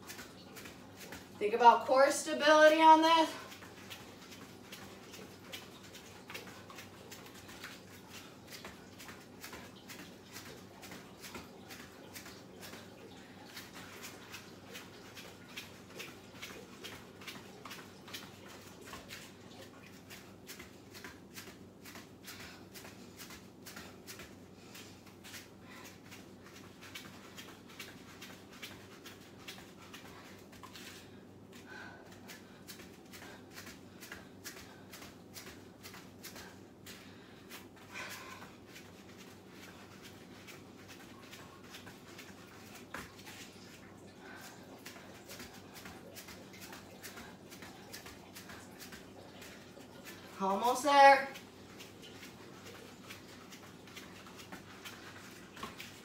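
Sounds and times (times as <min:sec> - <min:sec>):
bare feet tapping on mat: 0:00.0 - 0:01.9, 0:02.5 - 0:56.0.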